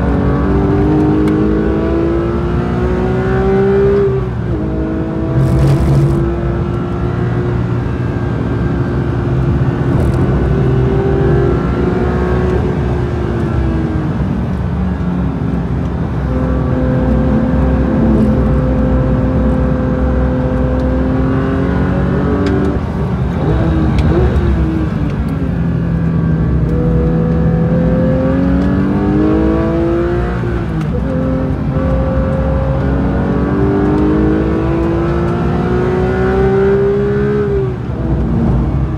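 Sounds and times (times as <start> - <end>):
car engine under hard driving: 0.0 - 38.9.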